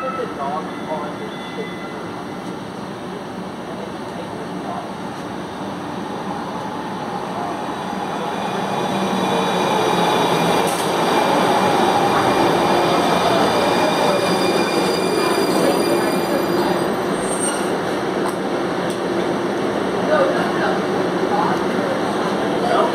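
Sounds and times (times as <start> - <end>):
light-rail train passing: 0.0 - 22.9.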